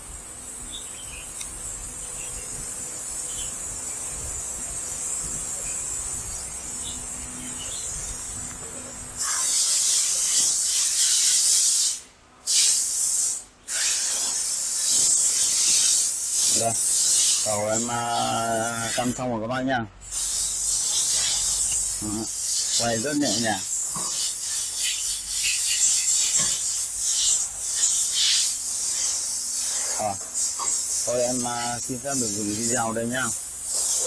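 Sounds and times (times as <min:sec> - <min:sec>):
loud jet of hissing air: 0:00.0 - 0:19.3, 0:20.0 - 0:34.0
steady high hiss: 0:00.0 - 0:34.0.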